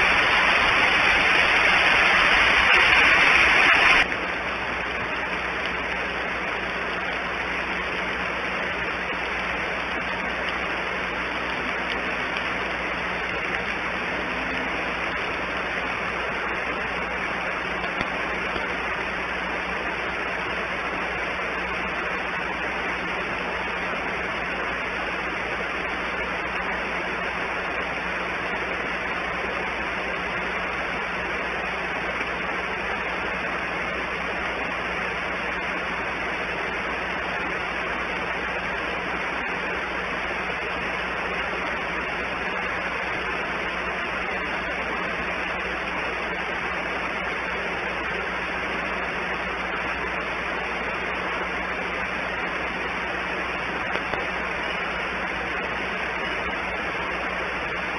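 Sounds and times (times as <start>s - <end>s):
steady hiss: 0.0s - 57.9s.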